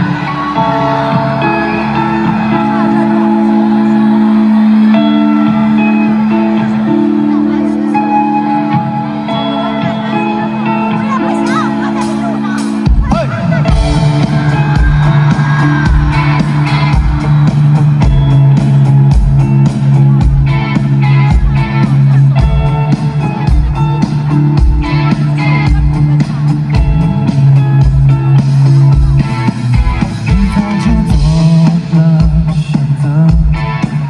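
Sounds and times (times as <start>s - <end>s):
live band music: 0.0s - 34.0s.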